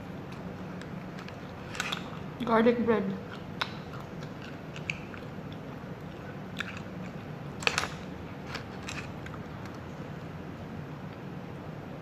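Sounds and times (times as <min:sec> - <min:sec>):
bread chewing: 0:00.1 - 0:02.4, 0:03.2 - 0:11.3.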